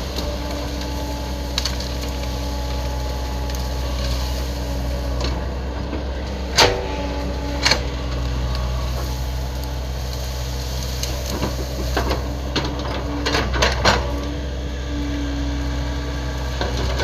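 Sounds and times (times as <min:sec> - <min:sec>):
excavator running: 0:00.0 - 0:17.0.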